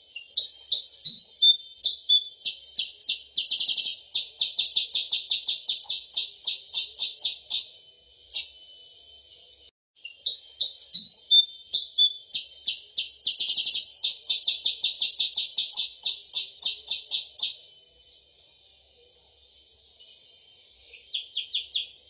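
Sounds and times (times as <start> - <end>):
recorded bird song chirps: 0.0 - 22.0.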